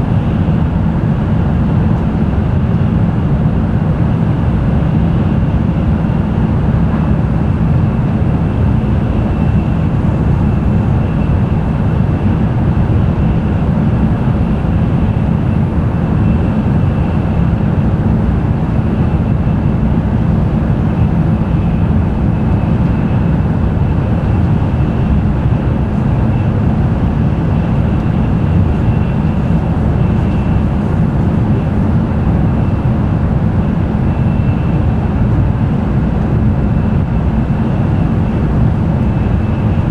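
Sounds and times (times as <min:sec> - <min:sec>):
train rumble and rushing: 0:00.0 - 0:39.9.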